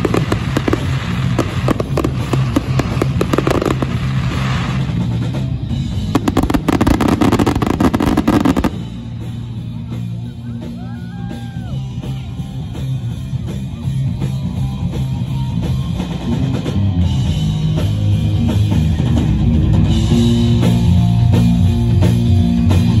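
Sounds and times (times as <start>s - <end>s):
rock music with drums and guitar: 0.0s - 23.0s.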